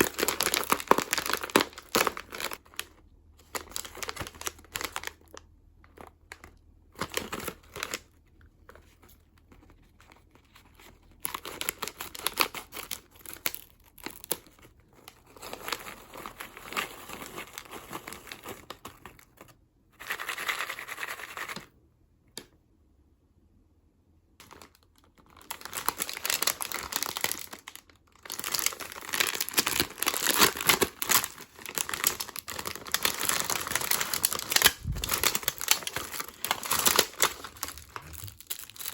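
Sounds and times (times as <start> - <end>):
plastic wrappers crinkling and tearing: 0.0 - 19.5, 24.4 - 38.9.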